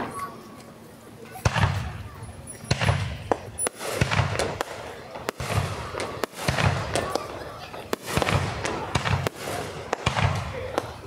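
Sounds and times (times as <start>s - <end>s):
firework shells bursting: 1.4s - 11.0s.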